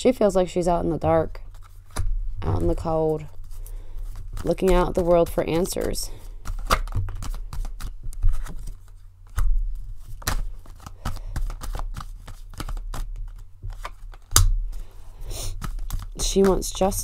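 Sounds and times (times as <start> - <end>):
cards clicking and slapping: 1.5 - 2.1, 2.7 - 17.0.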